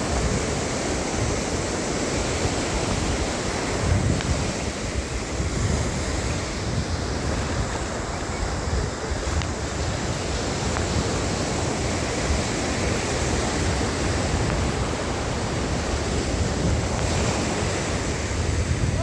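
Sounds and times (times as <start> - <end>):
sea waves breaking on beach: 0.0 - 19.0
wind rumbling on microphone: 0.0 - 19.0.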